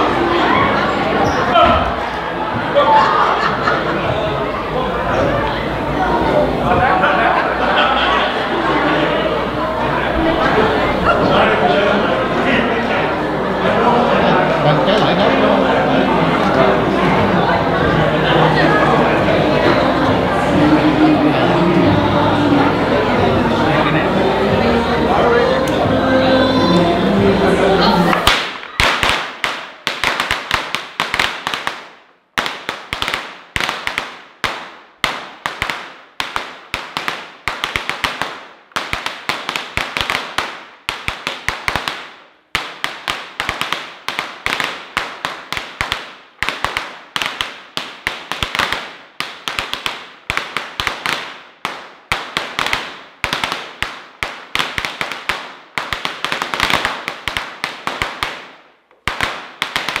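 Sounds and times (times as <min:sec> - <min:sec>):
firecrackers crackling in a hall: 0:00.0 - 0:22.0, 0:27.7 - 1:00.0.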